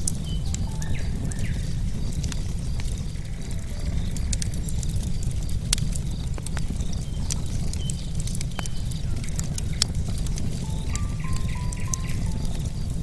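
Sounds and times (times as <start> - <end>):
bonfire crackling and popping: 0.0 - 13.0
low rumble of flames: 0.0 - 13.0.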